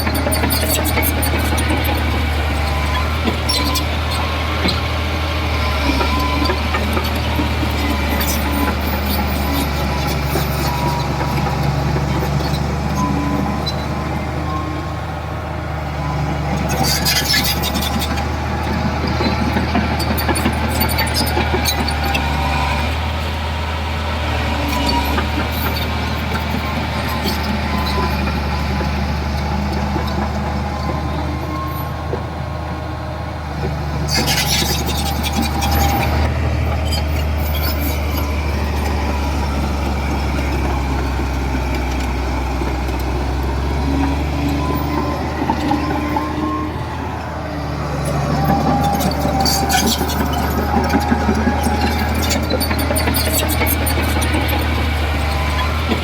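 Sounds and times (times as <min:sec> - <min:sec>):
heavy diesel machinery droning: 0:00.0 - 0:56.0.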